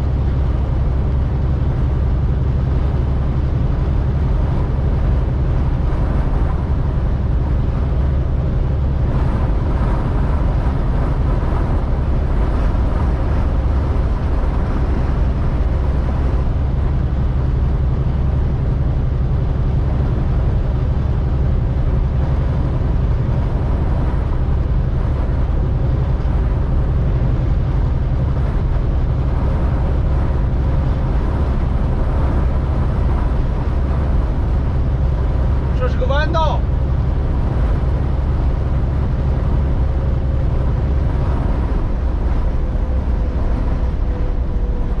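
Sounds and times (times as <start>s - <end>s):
wind noise against truck: 0.0s - 45.0s
truck cab rumble: 9.0s - 45.0s.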